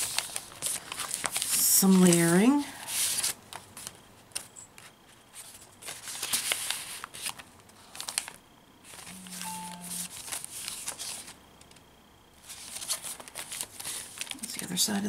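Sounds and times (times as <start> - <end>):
paper rustling and crackling: 0.0 - 11.4, 12.4 - 14.5.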